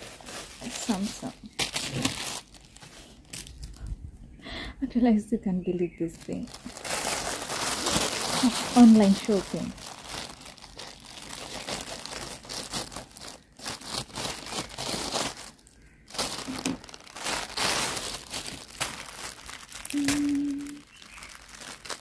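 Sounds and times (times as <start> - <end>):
plastic bag crinkling: 0.0 - 3.9, 6.0 - 22.0.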